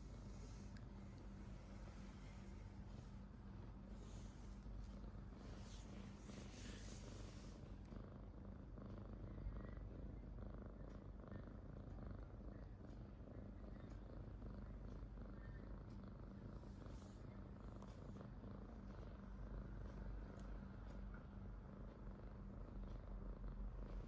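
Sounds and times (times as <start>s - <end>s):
cat snoring faintly: 0.0s - 24.0s.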